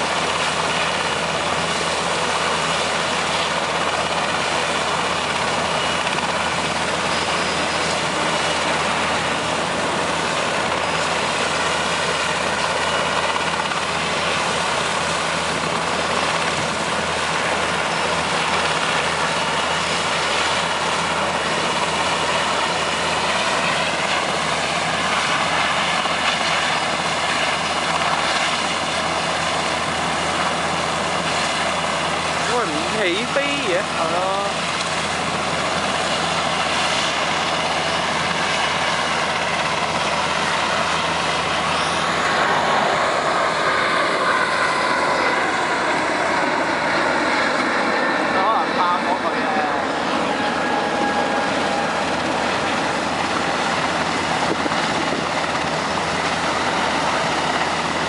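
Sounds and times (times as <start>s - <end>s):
helicopter turbine whine and rotor: 0.0s - 58.0s.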